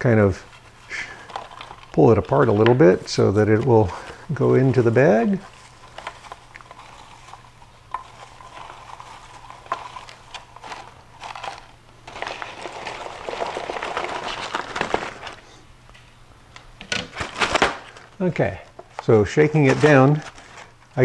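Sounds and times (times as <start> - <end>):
freeze-dried chicken crackling: 0.0 - 15.4, 17.0 - 21.0
plastic bag crinkling: 0.0 - 15.5, 16.9 - 21.0.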